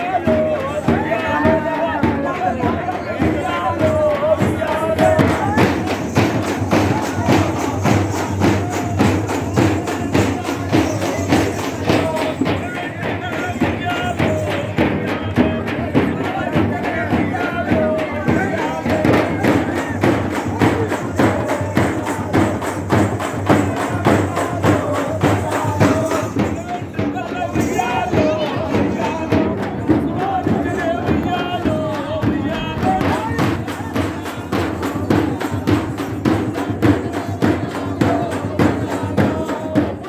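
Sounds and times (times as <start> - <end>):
folk drums: 0.0 - 40.0
voices singing or calling: 0.0 - 40.0.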